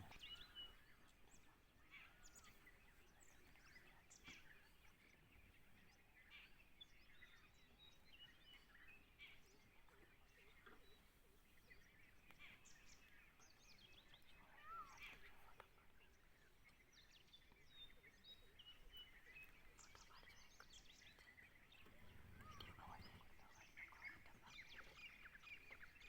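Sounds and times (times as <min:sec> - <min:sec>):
bird chirps: 0:00.0 - 0:26.0
low background hiss: 0:00.0 - 0:26.0.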